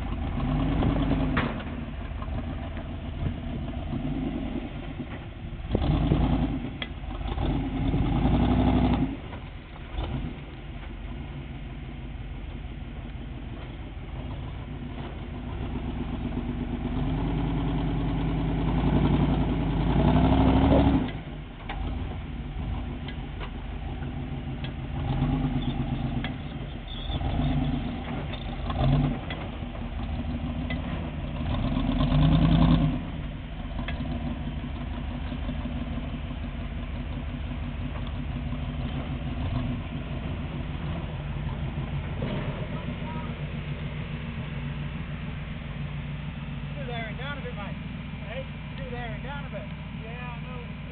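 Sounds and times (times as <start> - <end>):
buggy engine idling and revving: 0.0 - 50.9.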